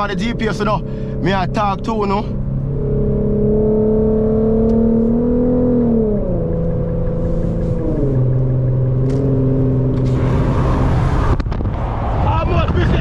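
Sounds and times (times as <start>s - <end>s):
car engine from inside car: 0.0s - 11.5s
road and wind rush: 0.0s - 13.0s.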